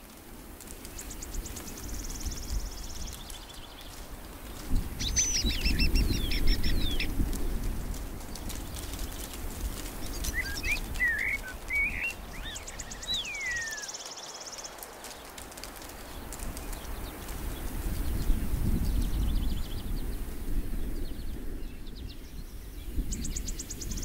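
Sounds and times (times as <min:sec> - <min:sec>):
small birds singing: 0:00.7 - 0:24.0.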